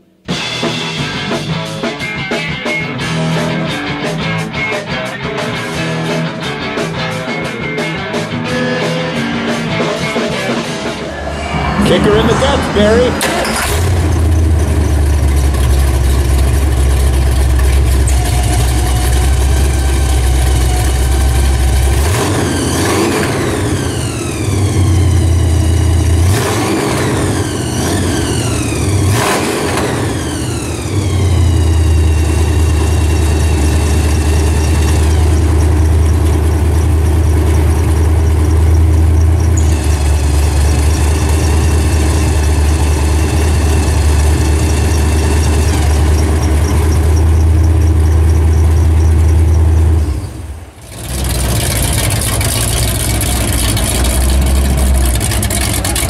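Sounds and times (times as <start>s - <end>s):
supercharged engine idling and revving: 8.2s - 56.0s
supercharger whine: 9.8s - 56.0s.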